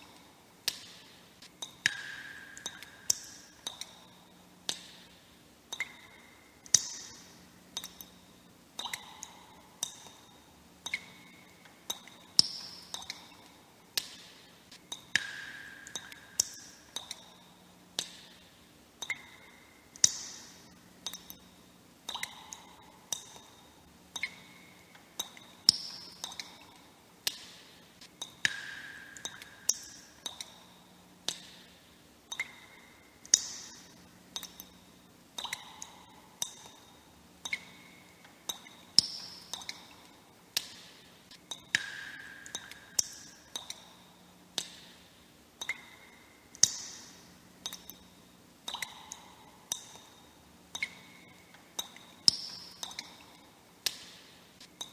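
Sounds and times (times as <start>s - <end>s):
water droplets plinking: 1.6s - 4.9s, 5.7s - 8.1s, 8.8s - 14.2s, 14.9s - 18.4s, 19.0s - 21.4s, 22.1s - 27.5s, 28.2s - 31.6s, 32.3s - 34.8s, 35.4s - 40.9s, 41.5s - 44.0s, 45.6s - 48.0s, 48.6s - 54.0s.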